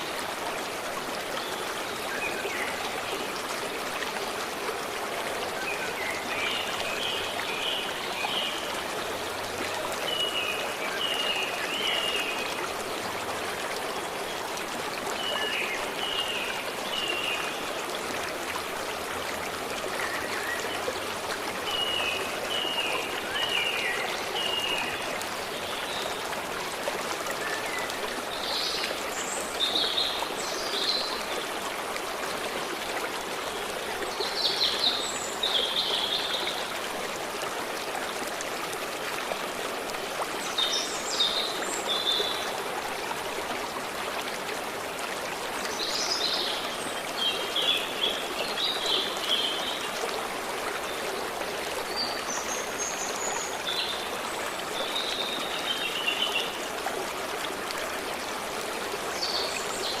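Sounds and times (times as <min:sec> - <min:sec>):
stream running over stones: 0:00.0 - 1:00.0.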